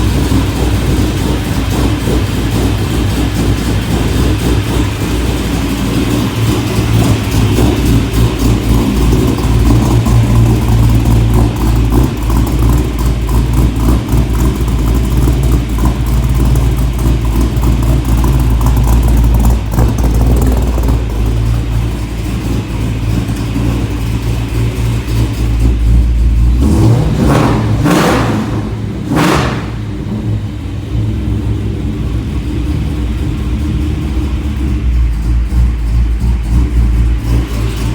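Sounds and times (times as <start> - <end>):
car engine exhaust drone: 0.0 - 37.9
engine revving: 0.0 - 37.9.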